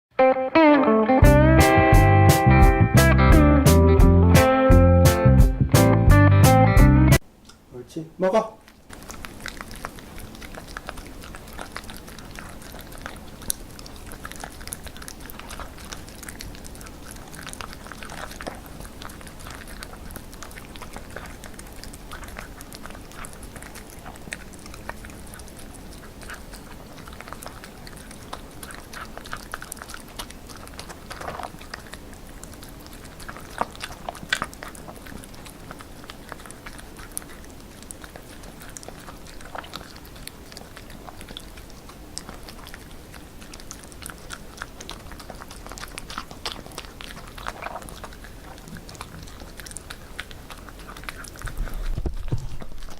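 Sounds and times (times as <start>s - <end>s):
puppy chewing meat: 1.2s - 7.2s, 8.3s - 52.9s.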